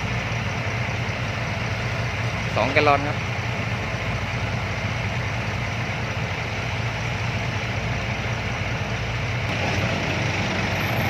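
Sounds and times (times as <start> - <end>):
dump truck diesel engine humming: 0.0 - 11.0.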